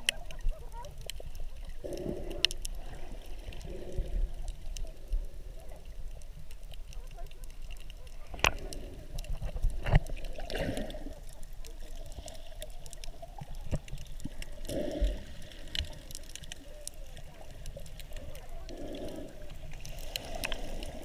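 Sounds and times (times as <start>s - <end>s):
water sloshing and gurgling underwater: 0.0s - 21.0s.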